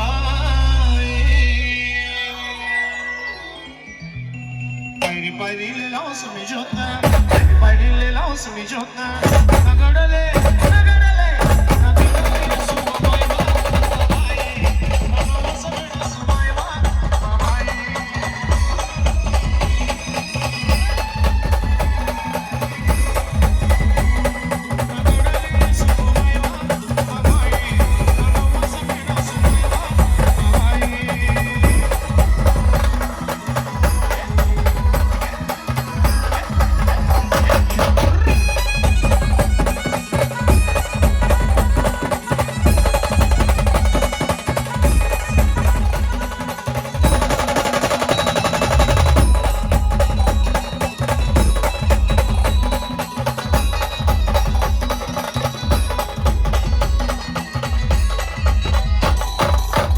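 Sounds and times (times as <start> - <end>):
heavy steady drum beat: 7.0 - 8.5, 9.2 - 59.9.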